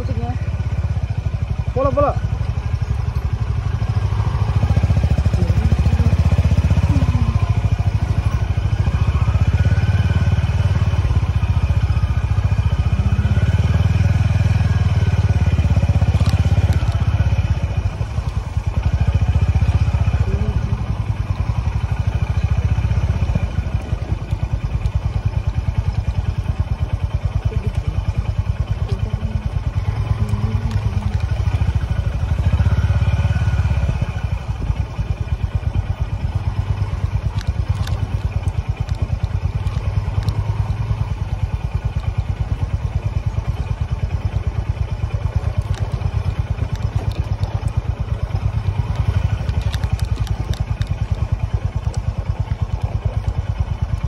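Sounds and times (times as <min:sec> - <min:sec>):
motorcycle engine thumping: 0:00.0 - 0:54.0.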